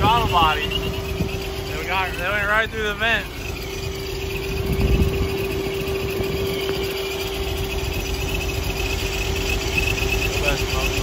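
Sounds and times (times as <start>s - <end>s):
car engine idling: 0.0s - 11.0s
steady hum: 0.0s - 11.0s.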